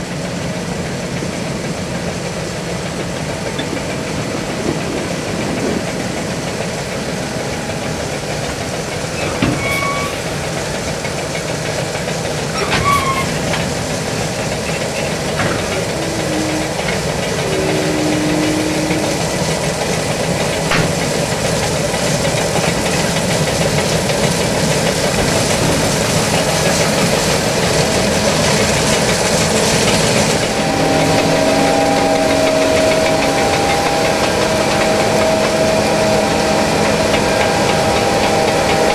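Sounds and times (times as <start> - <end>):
combine harvester running: 0.0 - 38.9
steady humming tones: 0.6 - 38.9.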